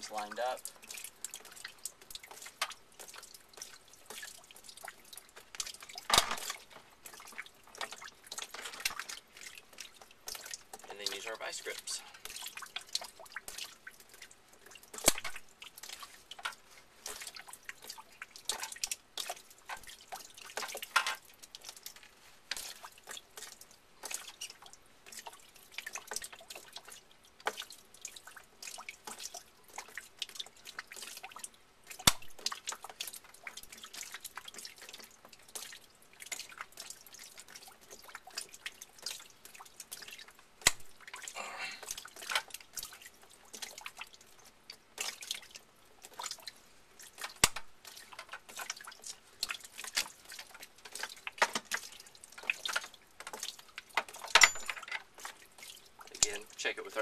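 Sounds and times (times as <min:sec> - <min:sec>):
water dripping: 0:00.0 - 0:57.0.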